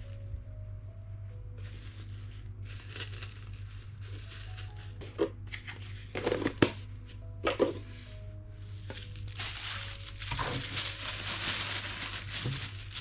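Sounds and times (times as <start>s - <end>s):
items rustling and crinkling: 0.0s - 13.0s
soft background music: 0.0s - 13.0s.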